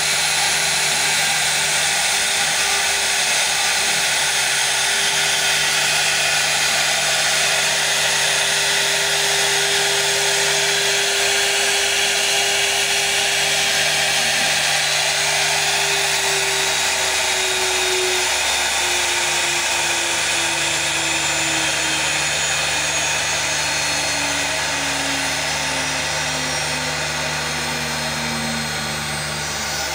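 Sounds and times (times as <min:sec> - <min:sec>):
wood router spindle whine: 0:00.0 - 0:29.9.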